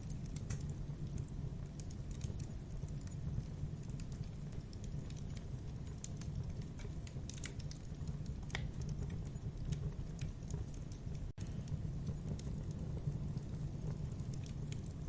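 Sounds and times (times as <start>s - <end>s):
burning wood crackling: 0.0s - 15.0s
rumble of campfire flames: 0.0s - 15.0s.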